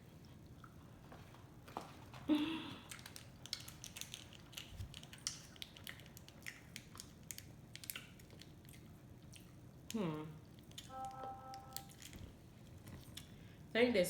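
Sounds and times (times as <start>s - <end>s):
chewing and crunching: 0.1s - 10.9s, 11.7s - 13.4s.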